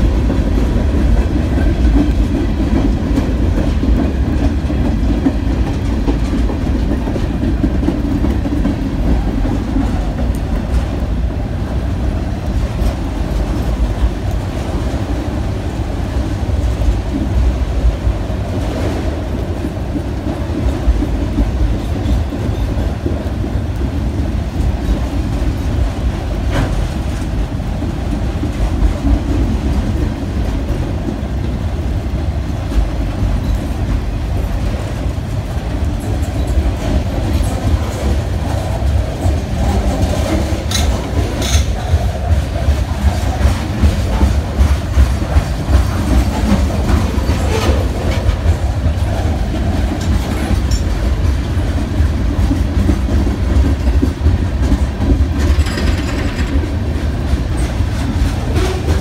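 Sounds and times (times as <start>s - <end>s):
clickety-clack at rail joints: 0.0s - 59.0s
freight train rumbling past: 0.0s - 59.0s.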